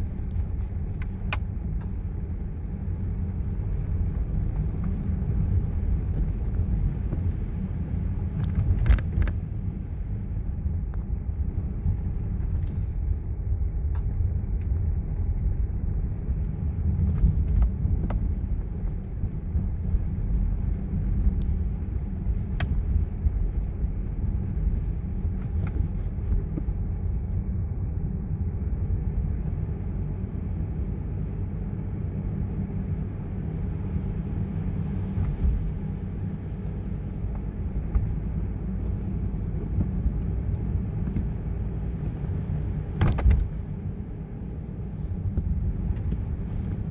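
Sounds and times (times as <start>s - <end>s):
car engine and road rumble: 0.0s - 46.9s.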